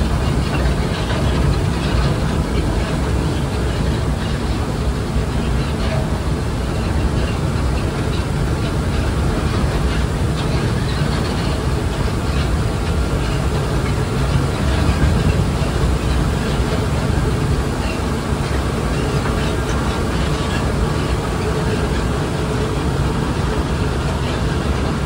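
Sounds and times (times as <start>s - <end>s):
diesel locomotive engine rumbling: 0.0s - 25.0s.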